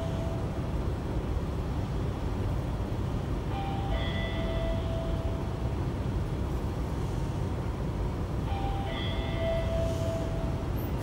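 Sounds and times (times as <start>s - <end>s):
tram running rumble: 0.0s - 11.0s.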